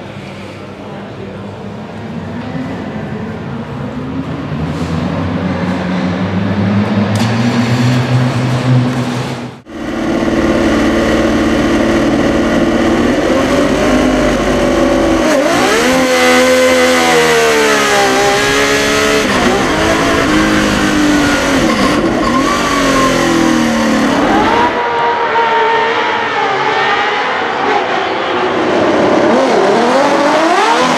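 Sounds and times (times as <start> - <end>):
racing car engine revving: 4.4 - 30.9.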